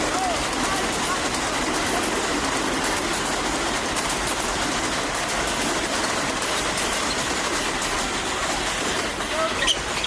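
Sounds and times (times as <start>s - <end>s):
gymnasium crowd din: 0.0s - 10.0s.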